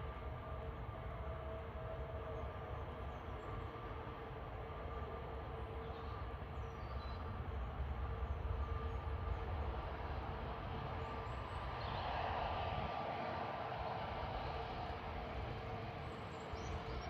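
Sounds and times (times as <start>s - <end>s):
distant jet engine rumble: 0.0s - 17.0s.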